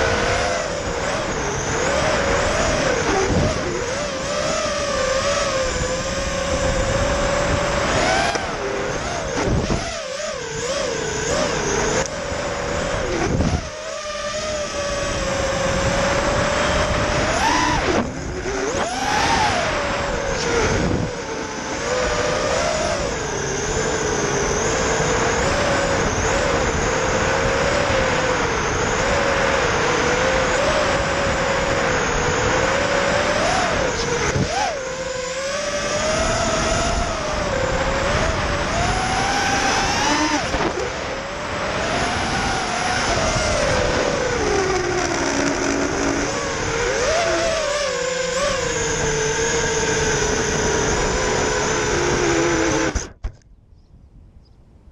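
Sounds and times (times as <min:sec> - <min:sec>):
drone motors whining: 0:00.0 - 0:53.4.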